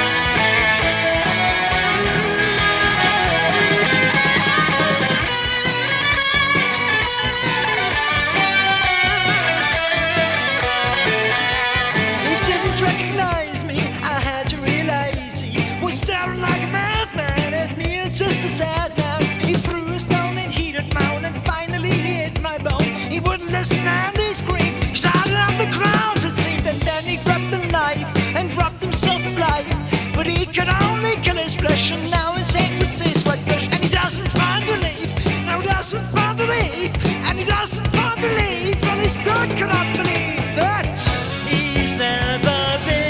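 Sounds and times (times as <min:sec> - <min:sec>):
bass and drums: 0:00.0 - 0:43.0
electric guitar lead: 0:00.0 - 0:43.0.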